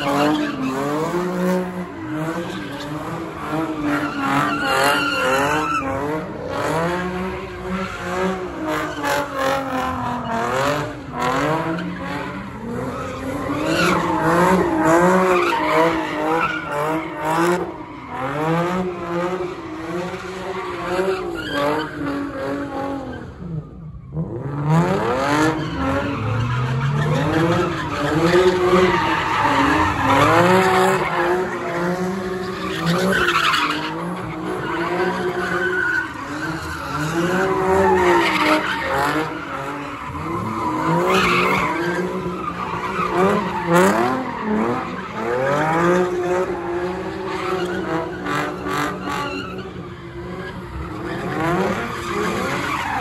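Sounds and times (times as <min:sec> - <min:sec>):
tyres squealing on pavement: 0:00.0 - 0:23.3, 0:25.0 - 0:53.0
car engine revving: 0:00.0 - 0:53.0.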